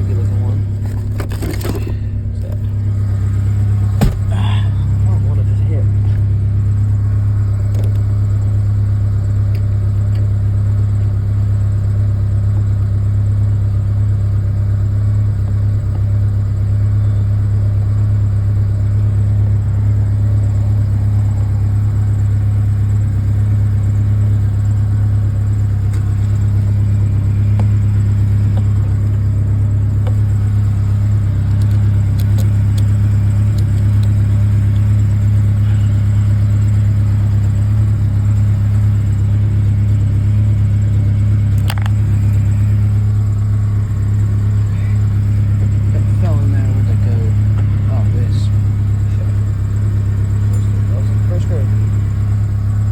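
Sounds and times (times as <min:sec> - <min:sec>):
pickup engine idling: 0:00.0 - 0:52.9.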